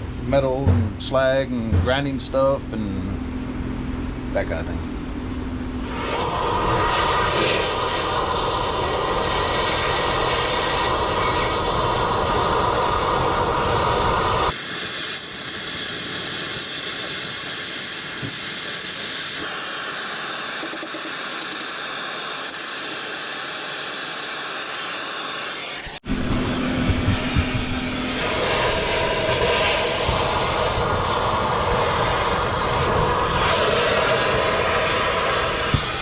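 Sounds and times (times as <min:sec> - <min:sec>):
metal cutting and grinding hiss: 0:05.8 - 0:26.0, 0:27.2 - 0:36.0.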